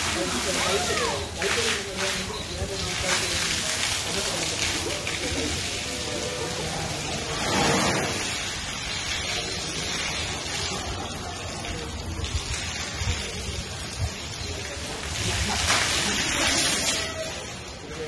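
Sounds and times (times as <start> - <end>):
water splashing onto wet floor: 0.0 - 18.0.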